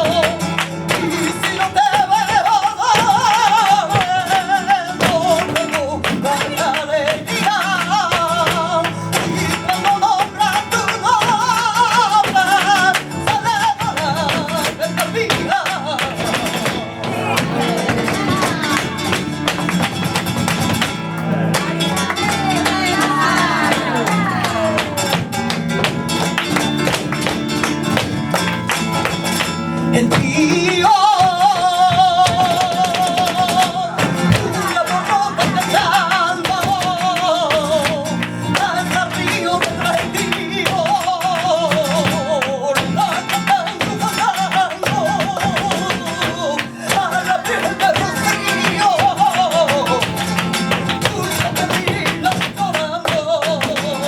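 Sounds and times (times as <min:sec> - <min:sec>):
guitar playing: 0:00.0 - 0:54.0.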